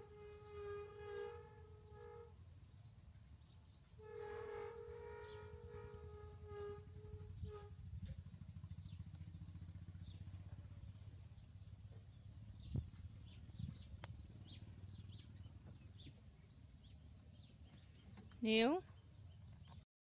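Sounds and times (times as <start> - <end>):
low steady rumble: 0.0 - 19.8.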